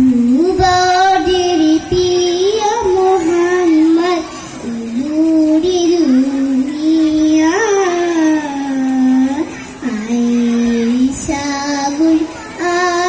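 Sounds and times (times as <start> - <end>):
girl singing into a microphone: 0.0 - 13.0.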